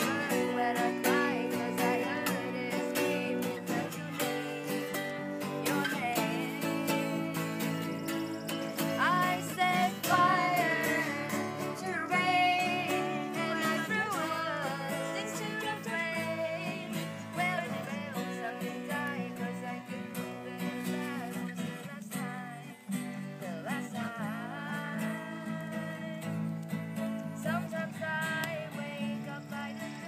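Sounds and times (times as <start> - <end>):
women singing: 0.0 - 26.5, 27.2 - 30.0
acoustic guitars strumming: 0.0 - 30.0.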